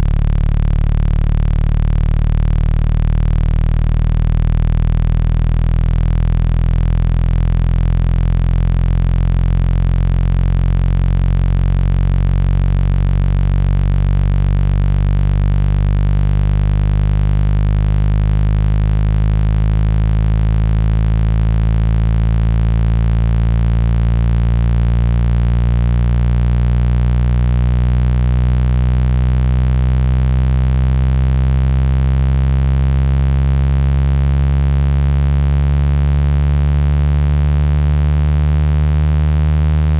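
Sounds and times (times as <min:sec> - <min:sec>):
loud buzzing low tone: 0:00.0 - 0:39.9.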